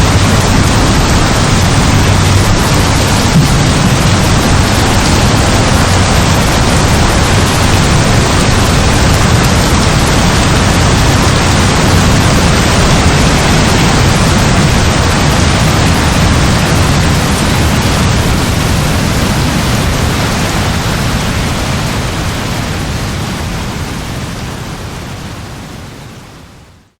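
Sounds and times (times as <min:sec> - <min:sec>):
heavy rain pouring: 0:00.0 - 0:26.9.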